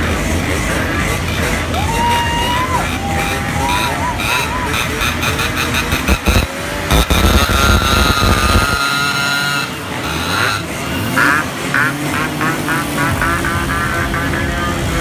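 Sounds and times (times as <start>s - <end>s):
motorcycle horns: 0.0s - 15.0s
two-stroke motorcycle engines: 0.0s - 15.0s.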